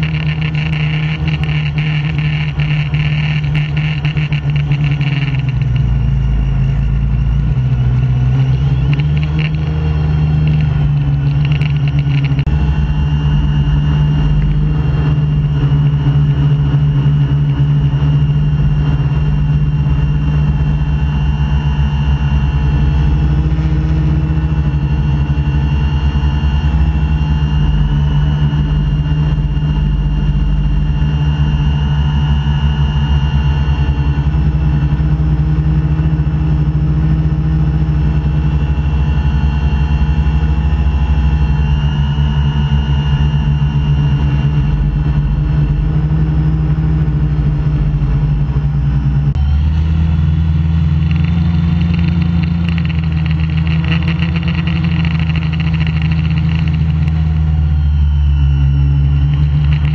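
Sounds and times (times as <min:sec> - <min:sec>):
drone motors buzzing: 0:00.0 - 0:59.9.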